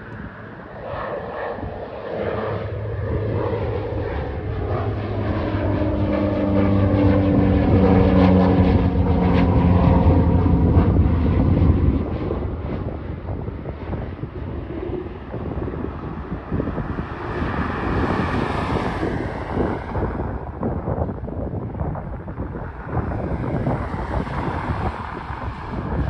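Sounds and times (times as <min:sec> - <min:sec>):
turboprop plane droning overhead: 0:00.0 - 0:26.0.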